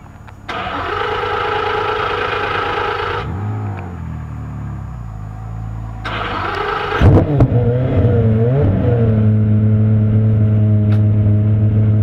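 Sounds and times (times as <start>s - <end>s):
car engine revving: 0.5s - 12.0s.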